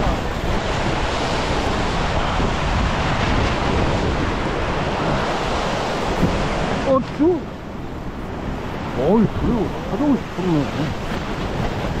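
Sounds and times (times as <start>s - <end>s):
ocean surf breaking on rock: 0.0s - 12.0s
wind buffeting microphone: 0.0s - 12.0s.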